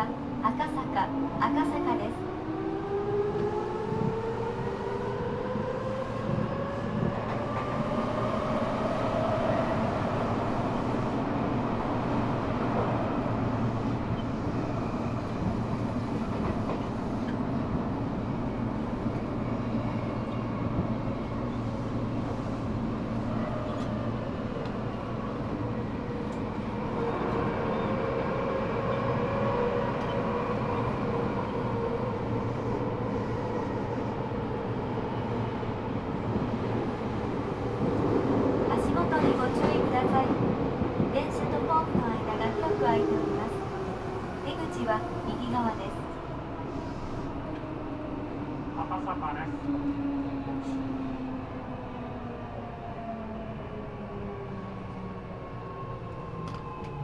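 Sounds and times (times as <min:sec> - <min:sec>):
subway train running on rails: 0:00.0 - 0:57.0.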